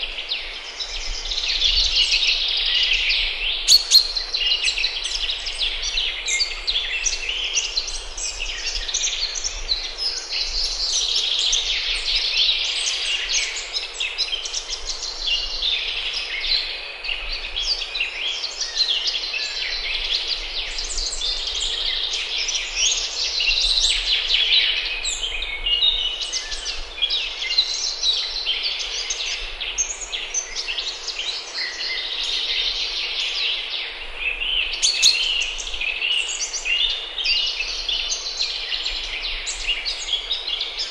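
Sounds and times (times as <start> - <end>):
songbirds chorus: 0.0 - 40.9.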